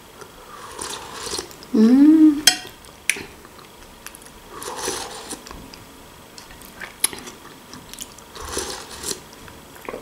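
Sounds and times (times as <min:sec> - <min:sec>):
person chewing food: 0:00.2 - 0:01.7, 0:02.8 - 0:10.0.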